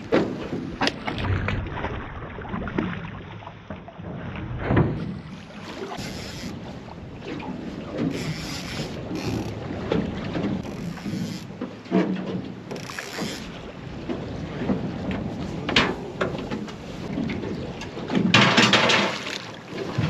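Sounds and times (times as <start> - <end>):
water splashing against hull: 0.0 - 20.0.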